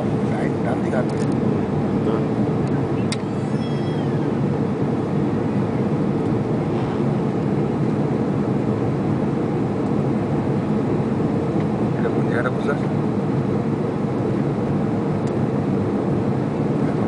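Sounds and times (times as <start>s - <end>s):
airplane cabin engine noise: 0.0s - 17.0s.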